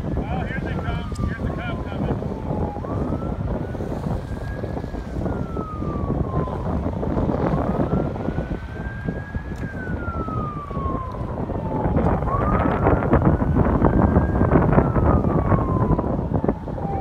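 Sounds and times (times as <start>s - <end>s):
emergency siren wailing: 0.0s - 17.0s
steady low rushing noise: 0.0s - 17.0s.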